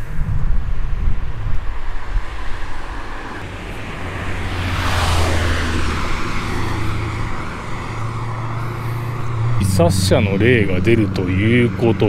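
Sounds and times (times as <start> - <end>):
vehicle passing by: 1.3 - 12.0.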